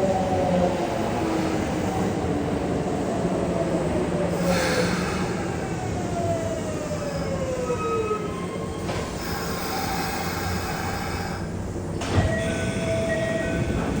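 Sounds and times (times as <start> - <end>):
electric train running on track: 0.0 - 14.0
wheel and rail rumble: 0.3 - 14.0.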